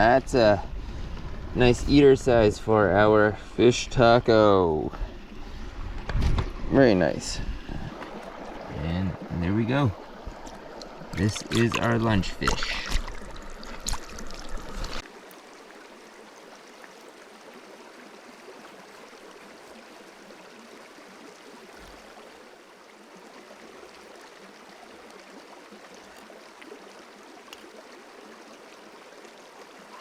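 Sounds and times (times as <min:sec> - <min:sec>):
flowing river water: 0:00.0 - 0:30.0.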